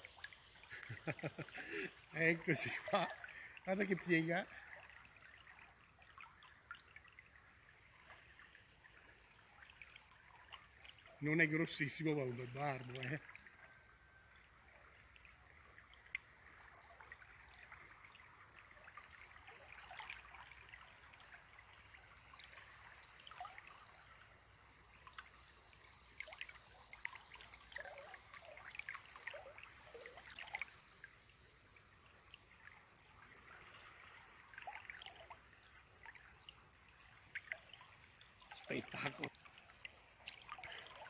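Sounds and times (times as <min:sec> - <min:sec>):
river water trickling: 0:00.0 - 0:41.0
small water plops: 0:00.0 - 0:41.0.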